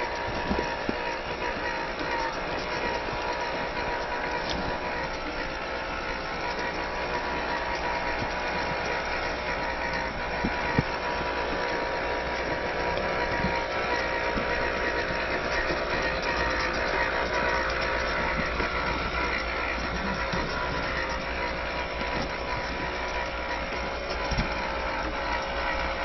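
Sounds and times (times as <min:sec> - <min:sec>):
small electric motor and gears: 0:00.0 - 0:26.0.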